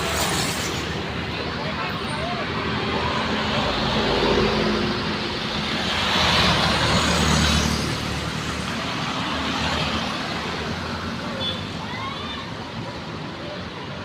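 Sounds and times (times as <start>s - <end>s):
bus passing close by: 0.0s - 11.8s
highway traffic noise: 0.0s - 14.0s.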